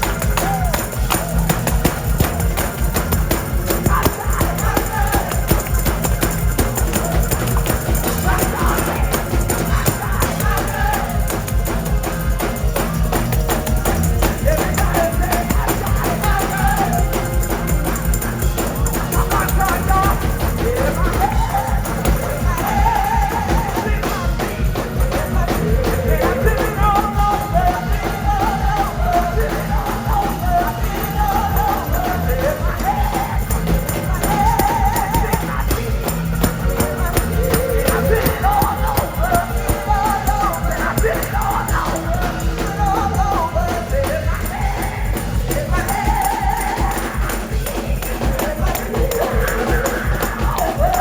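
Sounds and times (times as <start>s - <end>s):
bass: 0.0s - 51.0s
gospel choir singing: 0.0s - 51.0s
steady drum beat: 0.0s - 51.0s.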